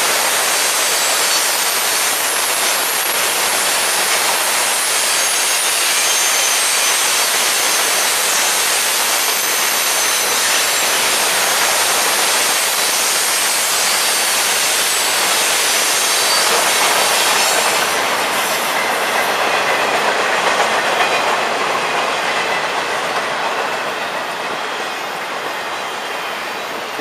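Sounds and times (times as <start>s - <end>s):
freight train wheels clattering: 0.0s - 27.0s.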